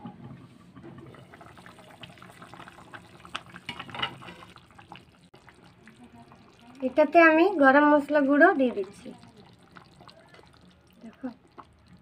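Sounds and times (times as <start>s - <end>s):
curry bubbling in a pot: 0.6s - 12.0s.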